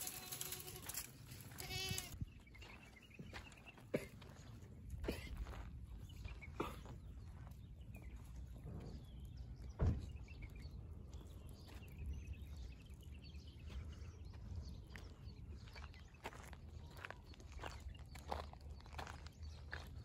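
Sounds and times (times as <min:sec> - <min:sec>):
goats walking over stony ground: 0:00.0 - 0:20.0.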